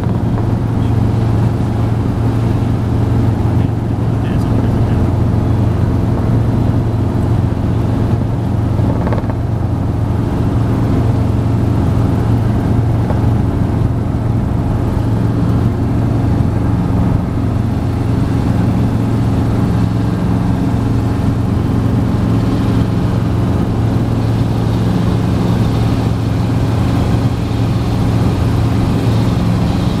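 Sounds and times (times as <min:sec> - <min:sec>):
helicopter engine and rotor hum: 0:00.0 - 0:30.0.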